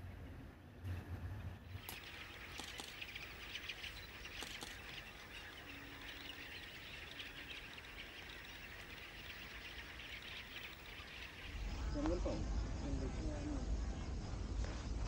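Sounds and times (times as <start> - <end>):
distant birds chattering: 0.0 - 15.0.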